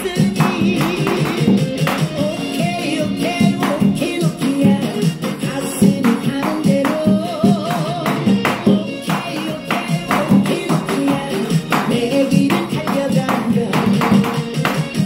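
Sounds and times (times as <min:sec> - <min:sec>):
upbeat dance track: 0:00.0 - 0:15.0.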